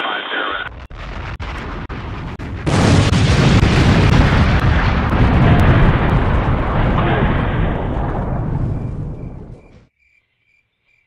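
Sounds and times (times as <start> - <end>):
explosion blast and rumble: 0.7 - 9.9.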